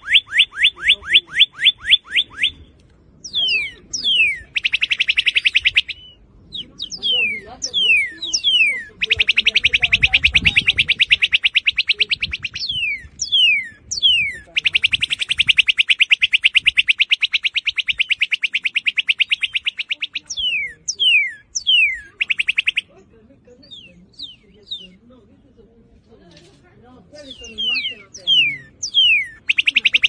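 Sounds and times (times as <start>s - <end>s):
bird singing whistles and trills: 0.0s - 23.0s, 23.6s - 25.1s, 27.2s - 30.0s.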